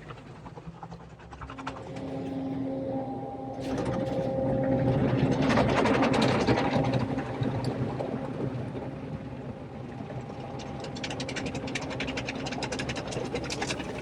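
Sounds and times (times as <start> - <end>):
machine whine: 1.2 - 14.0.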